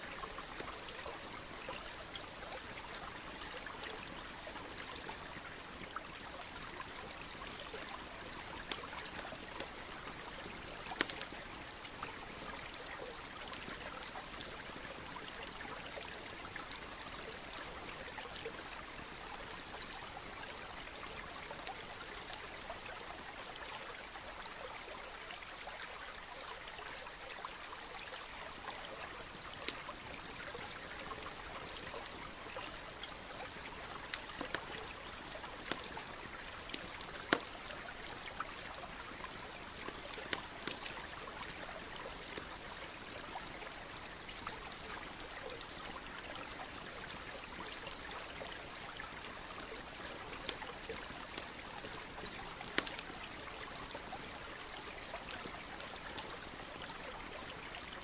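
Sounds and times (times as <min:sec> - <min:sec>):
campfire crackling: 0:00.0 - 0:25.8, 0:26.5 - 0:58.0
stream running: 0:00.0 - 0:58.0.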